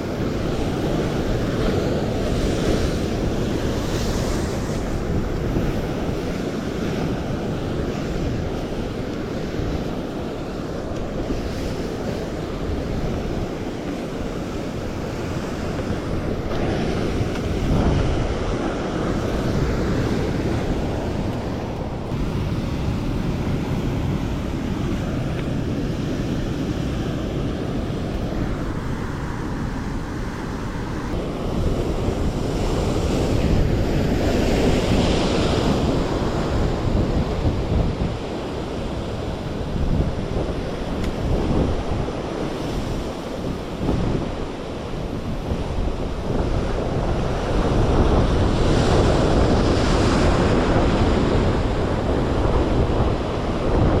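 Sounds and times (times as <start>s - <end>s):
sea surf breaking on shore: 0.0s - 54.0s
wind buffeting microphone: 0.0s - 54.0s.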